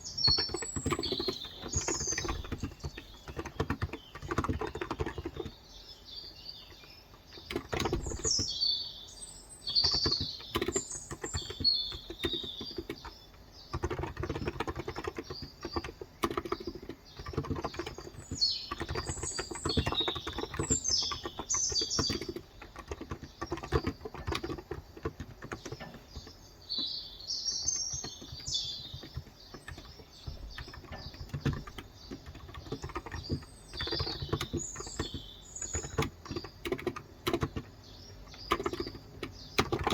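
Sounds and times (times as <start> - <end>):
typing on keyboard: 0.0 - 8.6, 9.6 - 39.9
birds chirping: 0.0 - 39.9.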